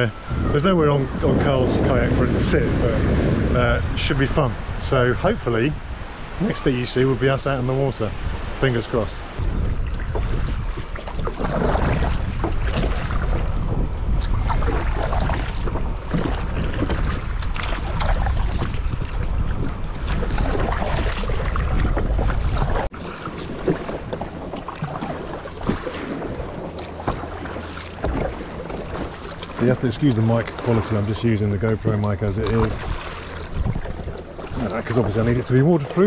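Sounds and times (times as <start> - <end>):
wind noise on microphone: 0.0 - 35.5
water splashing around kayak: 0.0 - 36.0.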